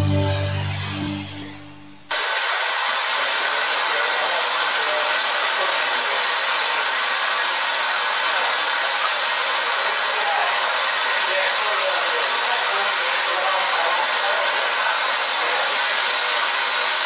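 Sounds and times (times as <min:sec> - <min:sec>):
steam hissing from locomotive: 0:02.1 - 0:17.0.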